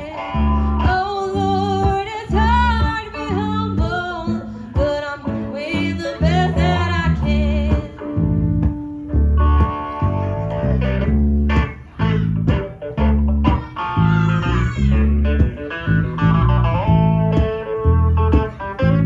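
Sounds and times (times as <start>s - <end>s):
guitars and bass rhythm: 0.0s - 19.0s.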